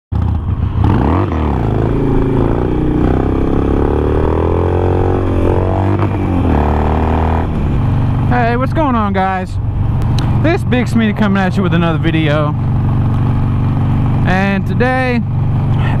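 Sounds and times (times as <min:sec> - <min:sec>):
motorcycle engine accelerating: 0:00.1 - 0:16.0.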